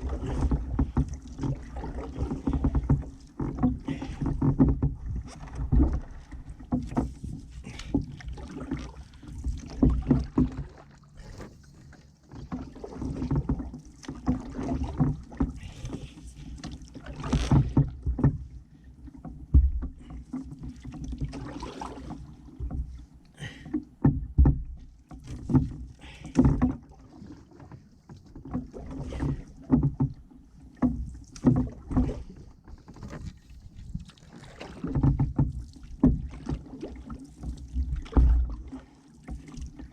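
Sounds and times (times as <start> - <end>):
water splashes and drips: 0.0 - 23.8, 24.4 - 39.9
paddle pulling through water: 0.0 - 39.9.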